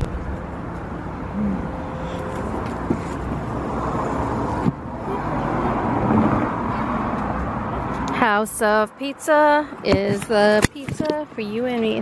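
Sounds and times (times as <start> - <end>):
road traffic passing cars: 0.0 - 12.0.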